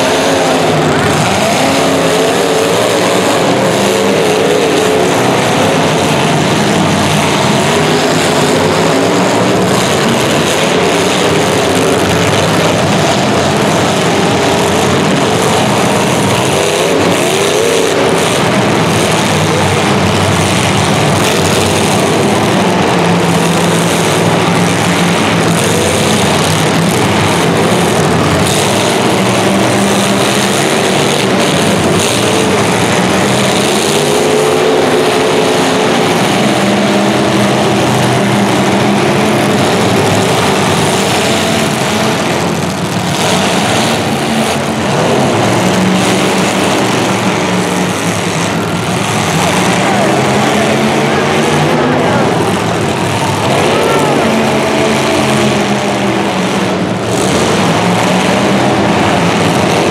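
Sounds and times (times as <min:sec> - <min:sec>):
racing engines revving: 0:00.0 - 0:59.9.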